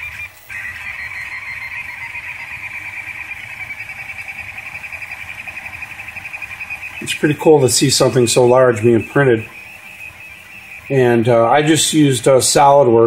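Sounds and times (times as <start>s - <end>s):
printer stepper motors whining: 0.0s - 12.9s.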